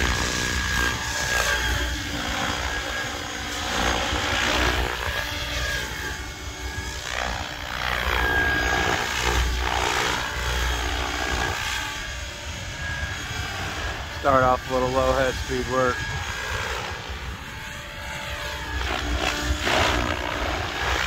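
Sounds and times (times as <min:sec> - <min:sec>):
high motor whine: 0:00.0 - 0:21.0
rc helicopter rotor blades beating: 0:00.0 - 0:21.0.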